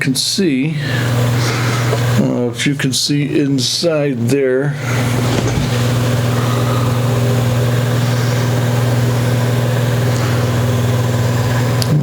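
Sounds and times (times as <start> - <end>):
loud steady low hum: 0.0 - 12.0.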